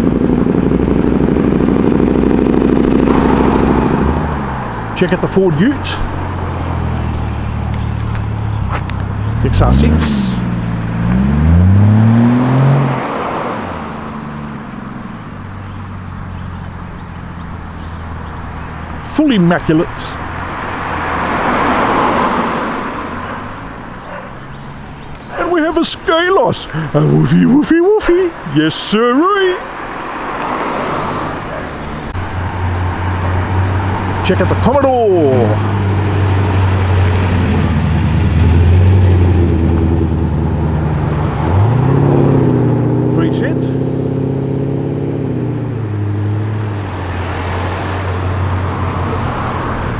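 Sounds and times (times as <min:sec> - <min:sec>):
car engine running at low revs: 0:00.0 - 0:28.6, 0:29.6 - 0:49.9.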